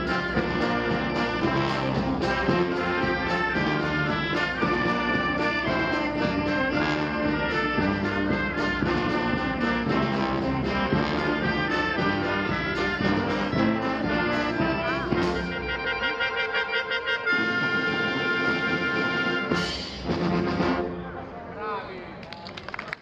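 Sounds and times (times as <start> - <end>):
tubas and trombones: 0.0 - 21.2
wind band playing a march: 0.0 - 21.2
trumpets: 0.0 - 21.3.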